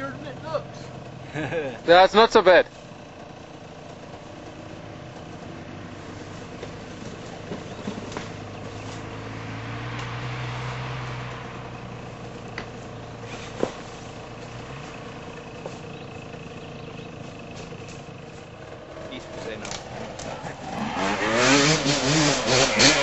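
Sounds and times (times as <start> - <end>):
motorcycle engine idling: 0.0 - 9.4, 11.3 - 23.0.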